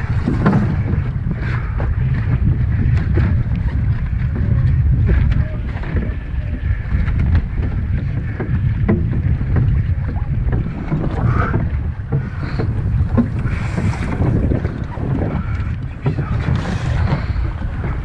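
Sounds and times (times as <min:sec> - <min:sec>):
wind buffeting microphone: 0:00.0 - 0:18.0
wooden spars and rigging clattering: 0:00.0 - 0:18.0.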